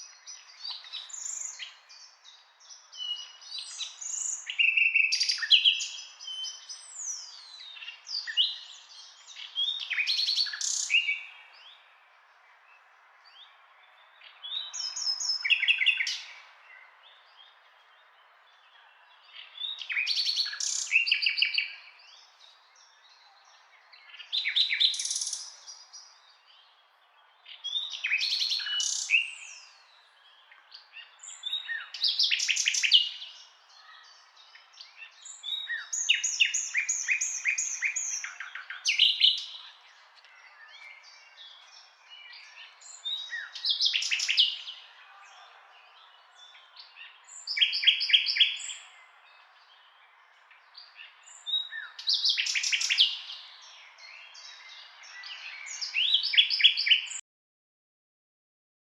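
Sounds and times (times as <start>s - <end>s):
nightingale singing: 0.0s - 12.0s, 13.3s - 57.2s.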